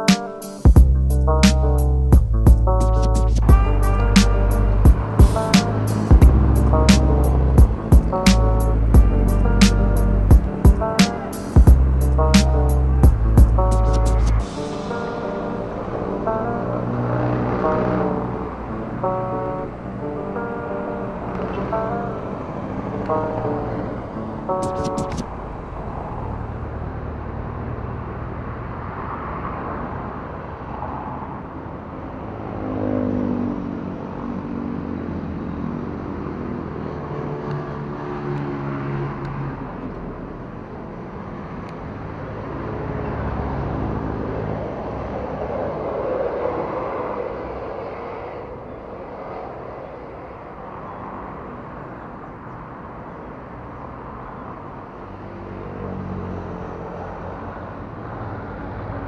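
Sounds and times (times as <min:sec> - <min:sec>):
road traffic hum: 0:00.0 - 0:59.0
vehicles passing: 0:00.0 - 0:59.0.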